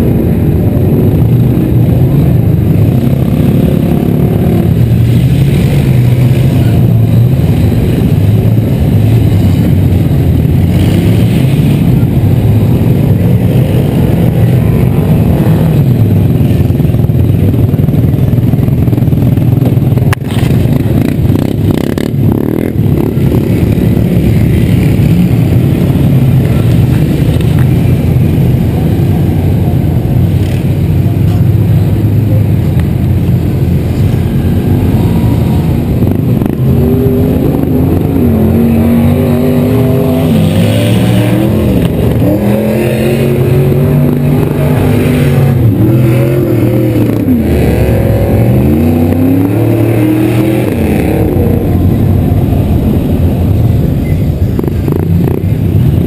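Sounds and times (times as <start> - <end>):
engine revving: 0.0 - 16.8, 20.2 - 29.3, 33.2 - 56.0
engines rumbling: 0.0 - 56.0.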